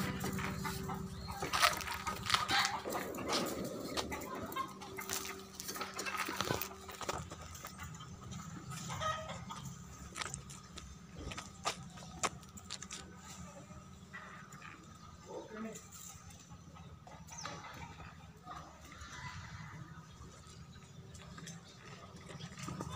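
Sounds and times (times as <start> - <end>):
chickens clucking: 0.0 - 22.9.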